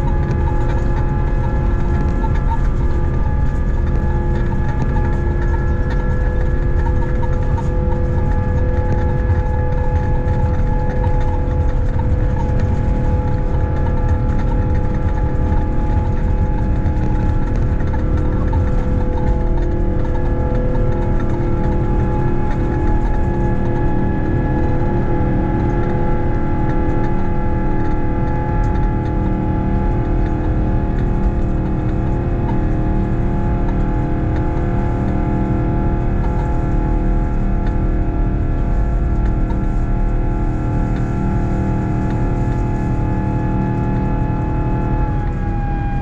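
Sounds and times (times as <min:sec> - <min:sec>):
jet engine drone: 0:00.0 - 0:46.0.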